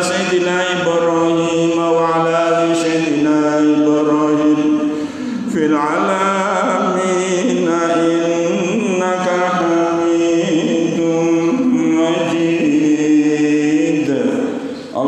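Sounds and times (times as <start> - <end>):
man chanting a prayer: 0.0 - 15.0.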